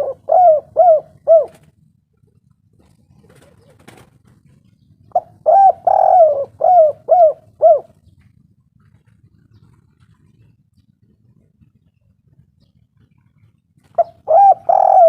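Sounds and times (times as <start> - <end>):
dove cooing: 0.0 - 1.8, 2.8 - 11.9, 12.7 - 15.0.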